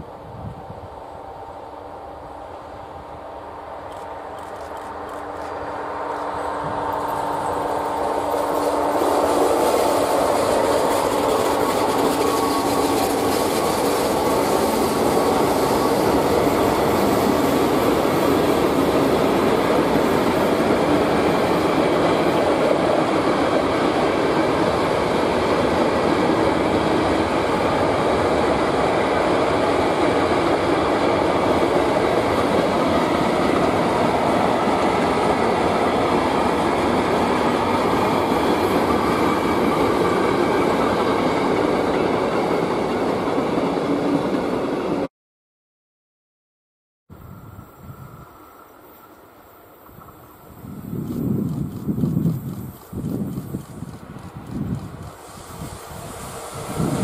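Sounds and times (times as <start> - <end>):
train wheels rumbling: 0.0 - 45.1, 47.4 - 57.0.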